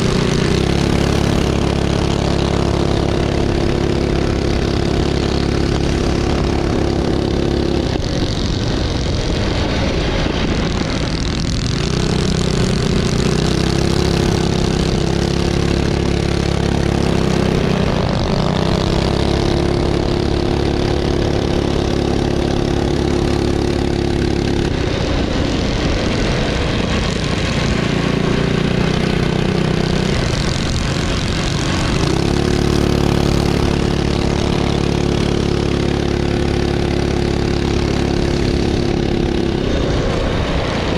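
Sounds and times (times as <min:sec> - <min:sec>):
minibike engines revving: 0:00.0 - 0:40.9.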